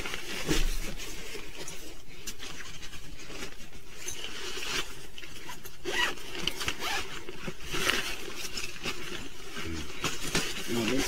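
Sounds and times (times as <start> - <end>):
fabric bag rustling: 0.0 - 11.0.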